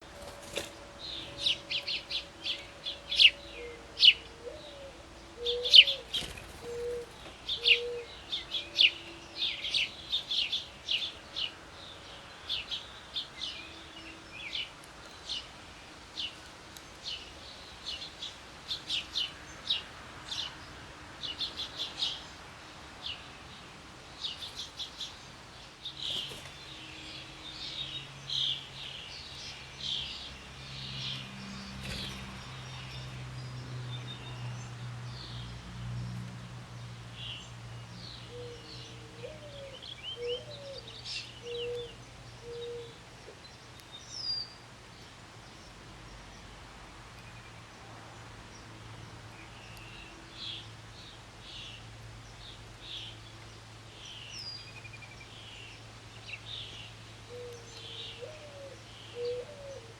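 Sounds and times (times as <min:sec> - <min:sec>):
birds chirping: 0:00.0 - 0:35.6, 0:37.1 - 0:46.5, 0:48.5 - 0:59.9.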